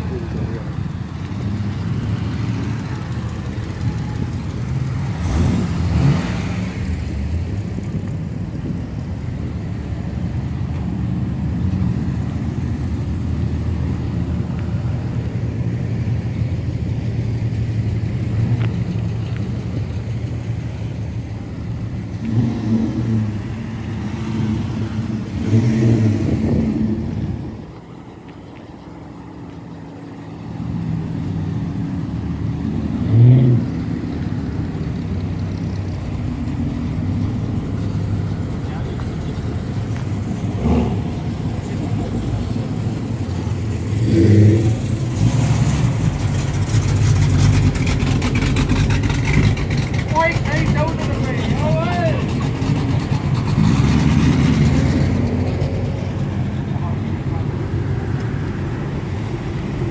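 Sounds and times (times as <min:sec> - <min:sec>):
car engine burbling and revving: 0:00.0 - 0:59.9.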